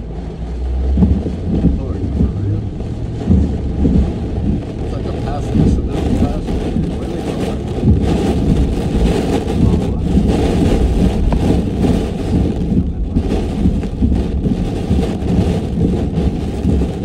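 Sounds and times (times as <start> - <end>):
hurricane wind and rain: 0.0 - 17.0.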